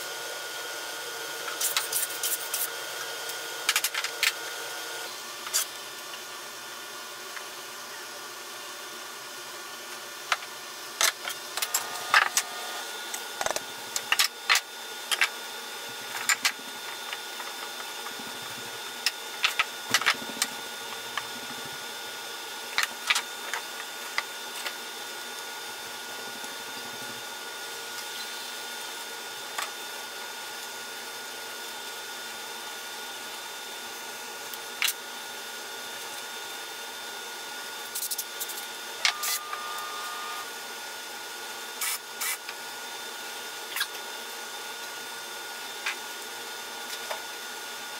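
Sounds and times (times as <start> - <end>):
steady mechanical hum: 0.0 - 47.9.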